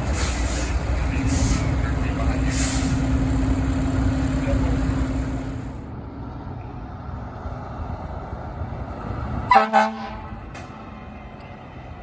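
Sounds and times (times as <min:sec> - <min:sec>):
fire truck engine rumbling: 0:00.0 - 0:12.0.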